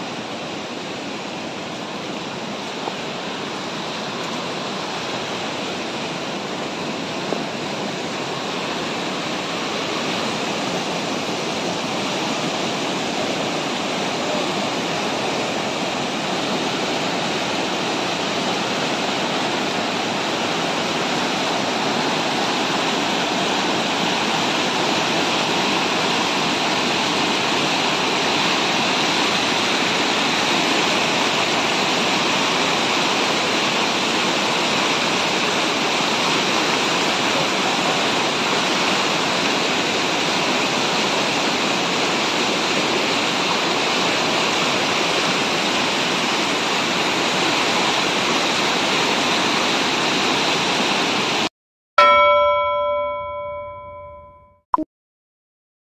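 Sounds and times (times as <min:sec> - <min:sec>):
water rushing over boulders: 0:00.0 - 0:51.5.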